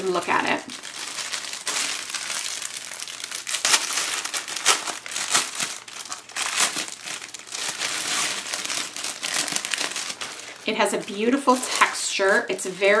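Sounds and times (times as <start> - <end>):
cellophane crinkling: 0.0 - 13.0.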